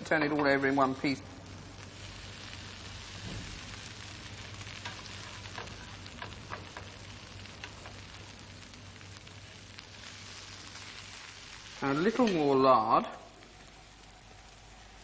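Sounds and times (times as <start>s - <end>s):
food sizzling in a pan: 0.0s - 15.0s
small crackles and pops: 0.0s - 15.0s.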